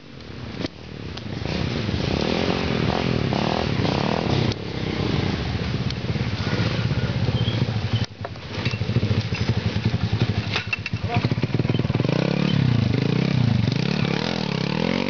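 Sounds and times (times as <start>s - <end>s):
motorcycle engine revving: 1.3s - 15.0s.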